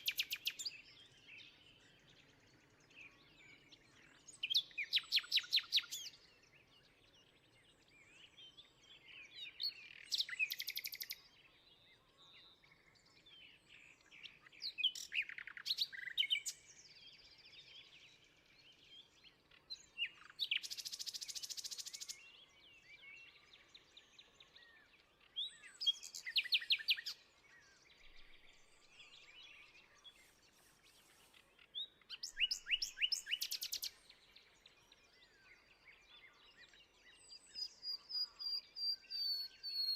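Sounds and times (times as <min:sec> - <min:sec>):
faint outdoor background: 0:00.0 - 0:39.9
songbirds singing trills: 0:00.0 - 0:39.9.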